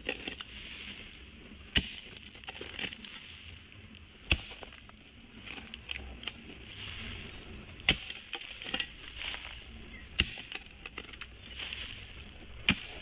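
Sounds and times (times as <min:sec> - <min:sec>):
hoe striking soil: 0:00.0 - 0:01.0, 0:01.6 - 0:03.5, 0:04.2 - 0:13.0
earth scraping and knocking: 0:00.0 - 0:13.0.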